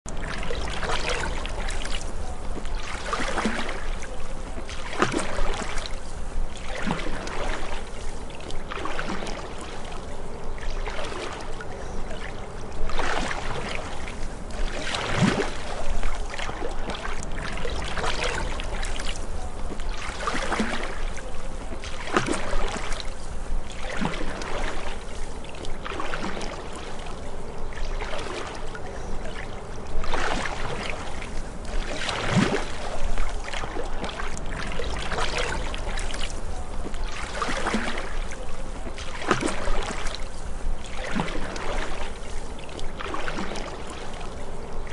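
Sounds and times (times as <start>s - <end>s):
paddle splashing in water: 0.1s - 44.9s.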